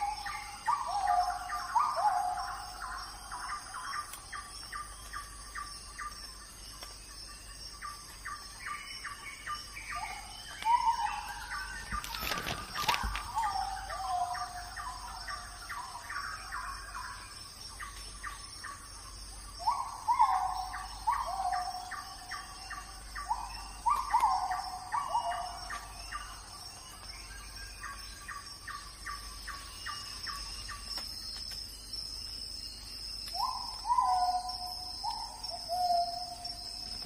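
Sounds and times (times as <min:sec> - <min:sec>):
birds whistling and chirping: 0:00.0 - 0:06.3, 0:07.7 - 0:37.0.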